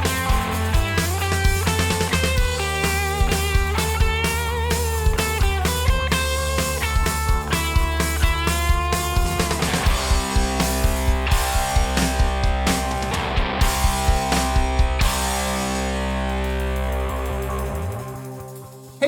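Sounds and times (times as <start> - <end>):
drums beating: 0.0 - 19.0
fuzzed electric guitar: 0.0 - 19.0.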